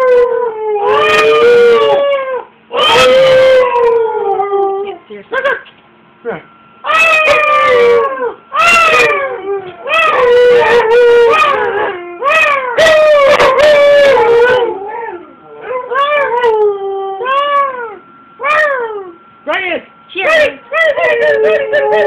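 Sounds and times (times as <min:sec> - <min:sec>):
dog howling: 0:00.0 - 0:05.6, 0:06.8 - 0:19.2, 0:20.7 - 0:22.0.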